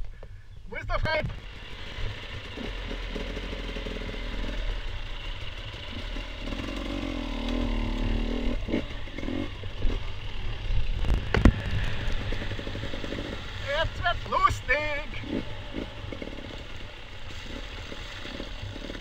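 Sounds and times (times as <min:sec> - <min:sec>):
rattling over rough ground: 0:00.0 - 0:19.0
vehicle engine running: 0:00.9 - 0:19.0.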